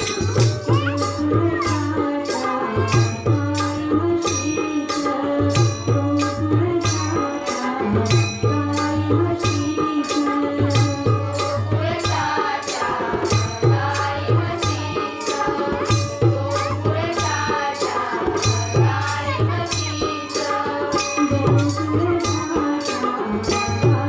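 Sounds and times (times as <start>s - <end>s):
hand drum rhythm: 0.0s - 24.0s
metallic percussion strikes: 0.0s - 24.0s.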